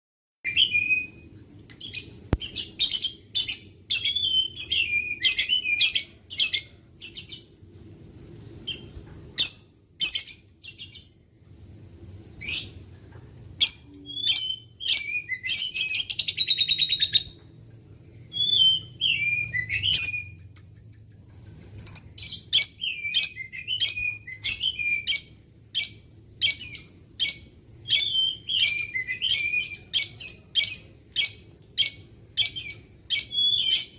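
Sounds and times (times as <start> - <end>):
lovebird chirping: 1.8 - 7.5, 8.6 - 11.2, 12.4 - 12.8, 13.6 - 33.9.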